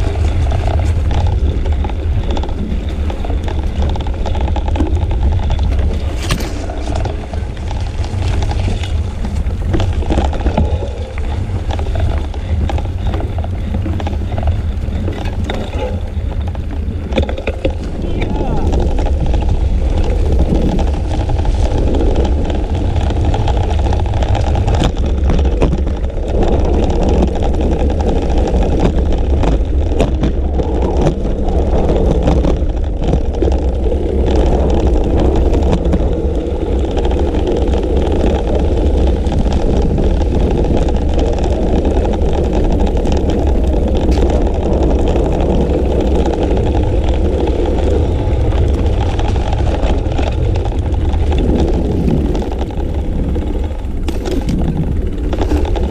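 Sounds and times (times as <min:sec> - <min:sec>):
tyre and road noise: 0:00.0 - 0:55.9
wind buffeting microphone: 0:00.0 - 0:55.9.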